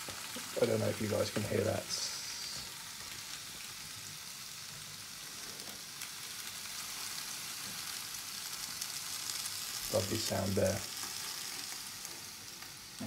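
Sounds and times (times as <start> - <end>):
potatoes sizzling in a grill: 0.0 - 13.0.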